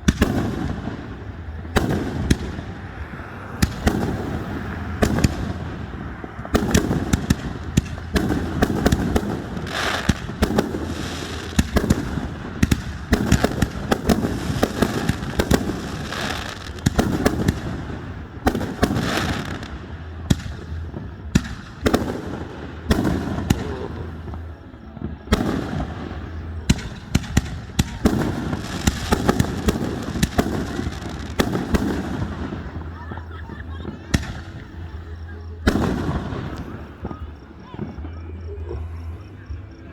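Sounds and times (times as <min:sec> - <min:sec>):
echoing rumble: 0:00.0 - 0:39.9
fireworks booming and crackling: 0:00.0 - 0:39.9.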